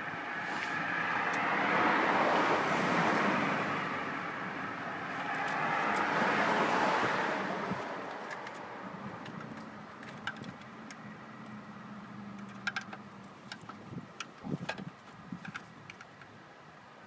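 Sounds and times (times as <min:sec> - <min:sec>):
cars passing by: 0:00.0 - 0:15.5.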